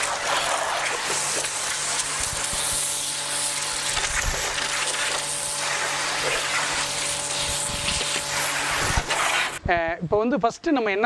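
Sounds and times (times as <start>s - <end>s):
pressure washer water spray hissing: 0.0s - 9.6s
washer motor humming: 0.0s - 9.6s.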